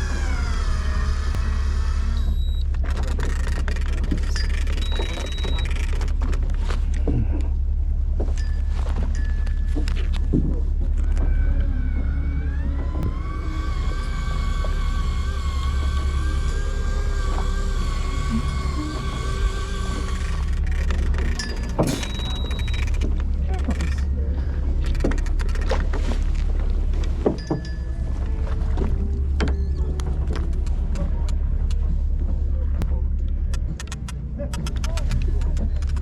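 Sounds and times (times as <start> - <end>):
motor whine: 0.0 - 8.0, 9.8 - 32.2
boat engine droning: 0.0 - 36.0.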